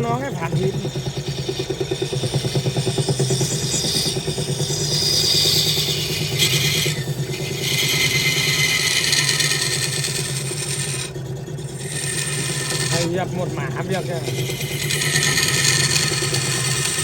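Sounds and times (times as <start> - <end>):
lathe motor hum: 0.0 - 17.0
tool cutting spinning wood: 0.0 - 17.0.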